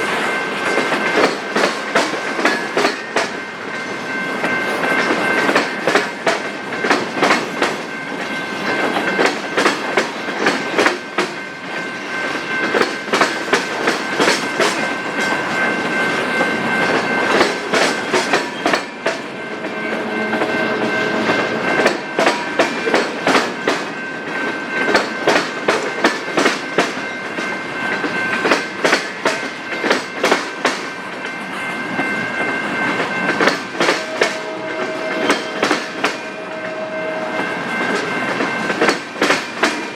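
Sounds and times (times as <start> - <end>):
train wheels clacking over rail joints: 0.0 - 3.4, 4.1 - 36.4, 37.6 - 39.9
train rumble: 0.0 - 39.9.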